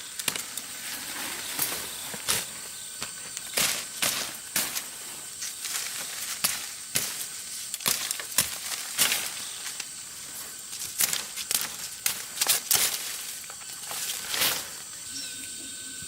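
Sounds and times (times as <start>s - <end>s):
high-pitched hiss: 0.0s - 16.0s
sharp crunches and snaps: 0.1s - 0.8s, 1.5s - 10.0s, 10.6s - 14.9s.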